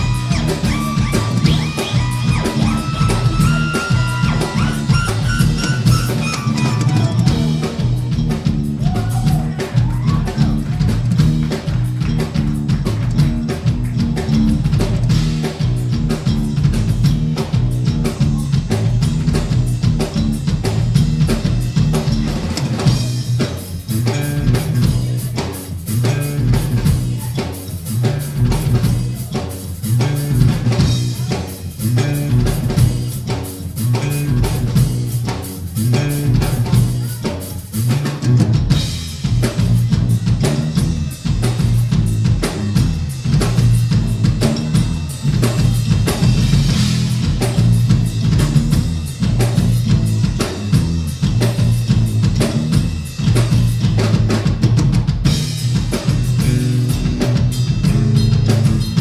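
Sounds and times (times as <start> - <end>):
bass guitar line: 0.0 - 59.0
drum kit beat: 0.0 - 59.0.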